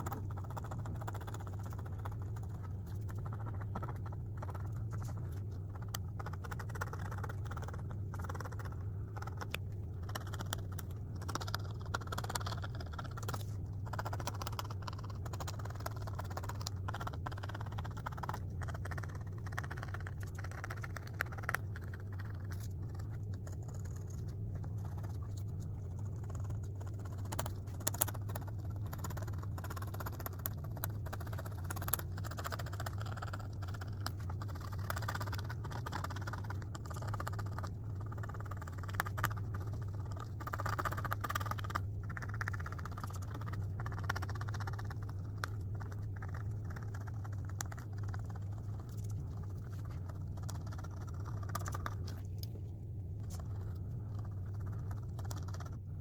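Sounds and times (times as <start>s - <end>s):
drawing toy scratching and clicking: 0.0s - 56.0s
steady low hum: 0.0s - 56.0s.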